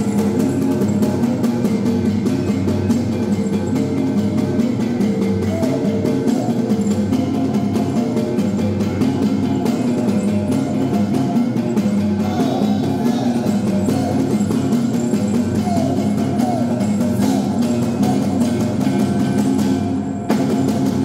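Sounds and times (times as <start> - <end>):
ringing gongs: 0.0 - 21.0.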